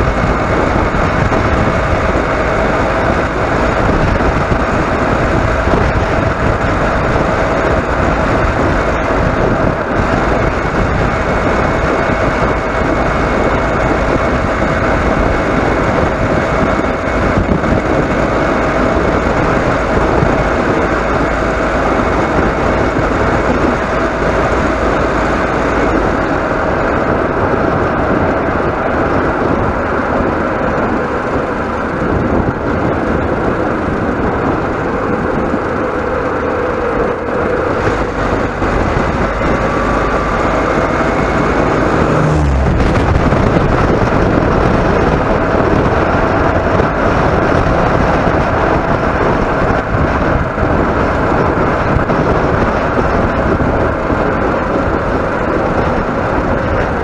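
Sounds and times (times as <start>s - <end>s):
steady hum: 0.0s - 57.0s
vehicle engine and road noise: 0.0s - 57.0s.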